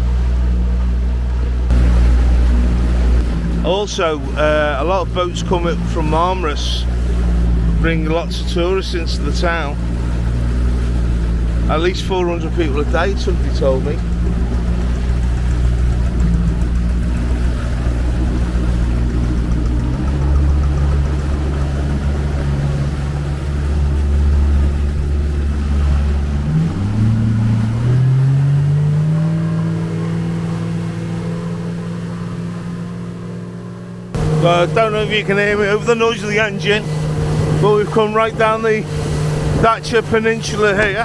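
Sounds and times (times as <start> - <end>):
speedboat engine running: 0.0 - 41.0.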